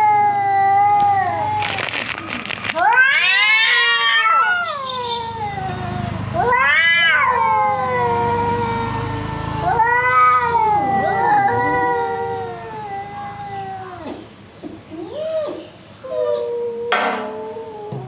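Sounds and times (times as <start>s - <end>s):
cats yowling: 0.0s - 18.0s.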